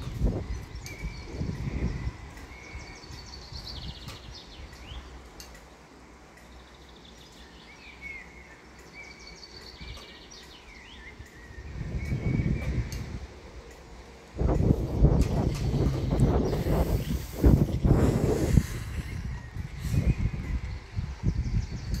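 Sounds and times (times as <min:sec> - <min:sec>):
low wind rumble: 0:00.0 - 0:22.0
songbird singing: 0:00.0 - 0:22.0.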